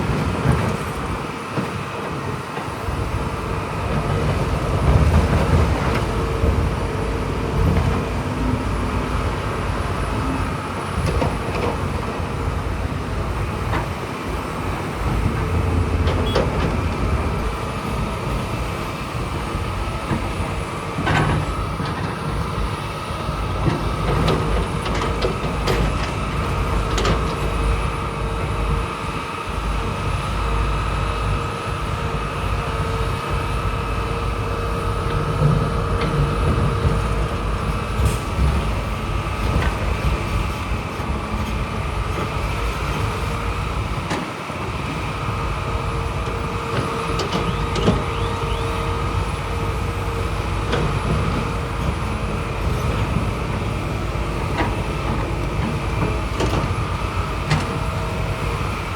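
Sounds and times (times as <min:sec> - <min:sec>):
diesel engine rumbling with whine: 0:00.0 - 0:58.9.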